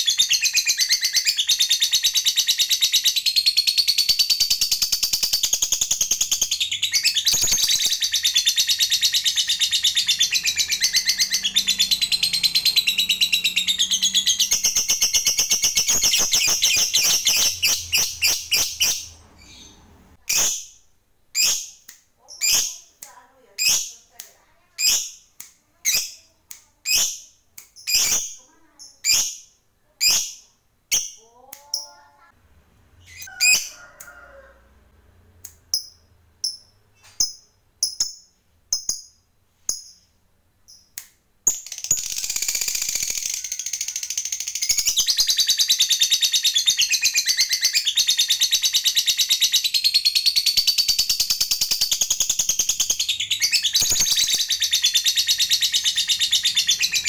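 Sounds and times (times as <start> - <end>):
lovebird chirping and trilling: 0.0 - 24.2, 24.8 - 32.3, 33.0 - 34.2, 35.7 - 57.0.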